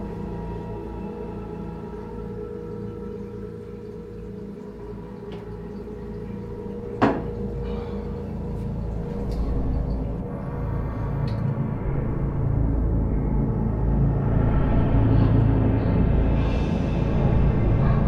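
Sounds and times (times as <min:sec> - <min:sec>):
low droning ambient music: 0:00.0 - 0:18.0.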